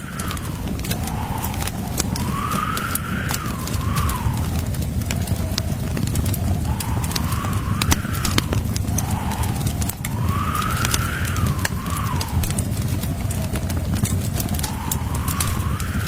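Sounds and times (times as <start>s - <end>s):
blizzard wind howling: 0.0s - 16.0s
wood fire crackling: 0.0s - 16.0s.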